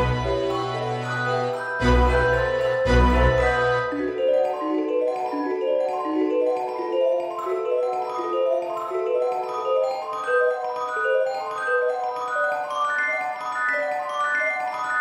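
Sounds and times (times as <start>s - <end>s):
cheerful mallet percussion tune: 0.0s - 15.0s.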